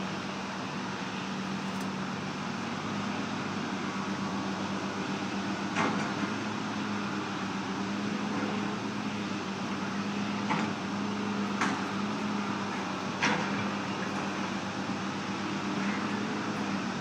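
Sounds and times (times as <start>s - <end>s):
heavy equipment engine running: 0.0s - 17.0s.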